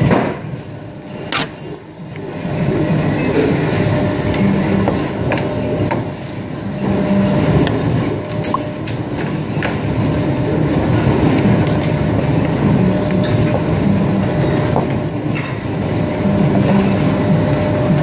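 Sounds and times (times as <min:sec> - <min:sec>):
machinery hum and rumble: 0:00.0 - 0:18.0.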